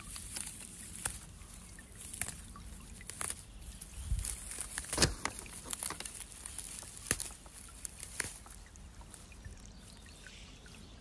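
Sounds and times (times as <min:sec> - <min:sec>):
fern stems snapping: 0:00.0 - 0:09.6
dry fronds rustling: 0:00.0 - 0:11.0.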